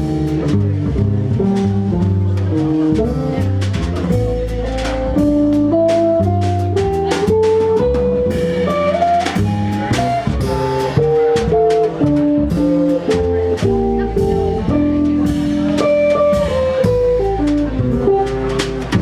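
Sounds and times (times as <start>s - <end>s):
drum kit keeping time: 0.0s - 19.0s
held melody notes: 0.0s - 19.0s
moving bass notes: 0.0s - 19.0s.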